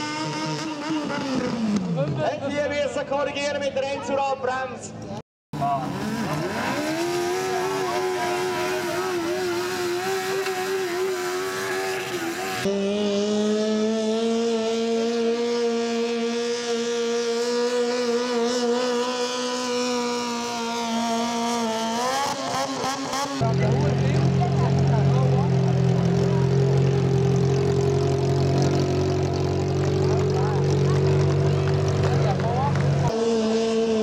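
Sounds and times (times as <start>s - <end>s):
tractor engine at high revs: 0.0s - 2.2s, 5.6s - 34.0s.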